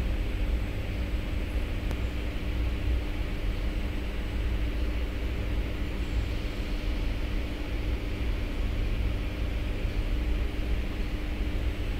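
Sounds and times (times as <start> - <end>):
machinery humming and hissing: 0.0 - 11.9.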